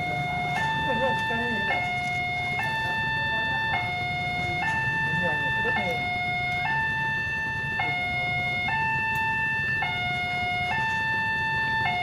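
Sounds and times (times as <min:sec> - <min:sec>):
two-tone level crossing alarm: 0:00.0 - 0:12.0.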